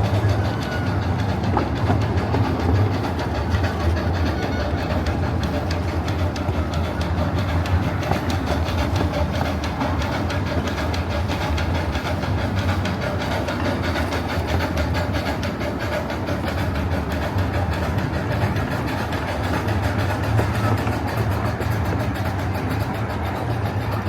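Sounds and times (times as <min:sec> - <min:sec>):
steam train rumbling: 0:00.0 - 0:24.0
wheels clicking on rails: 0:00.0 - 0:24.0.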